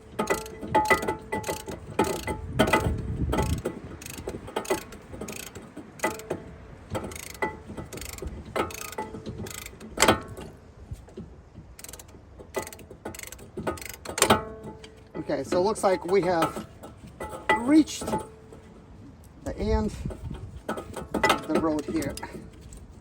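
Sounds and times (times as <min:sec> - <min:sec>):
hand ratchet clicking: 0:00.0 - 0:10.5, 0:11.8 - 0:18.3, 0:20.0 - 0:22.6.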